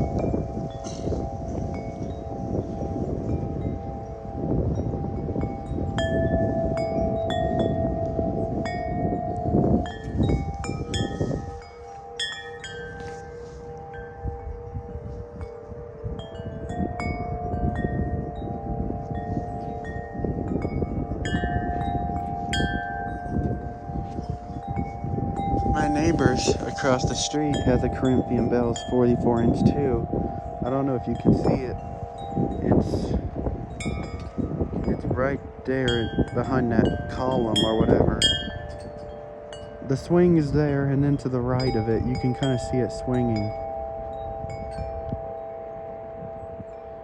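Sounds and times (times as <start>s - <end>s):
wind chimes ringing: 0.0s - 47.0s
wind rumbling on microphone: 0.0s - 47.0s.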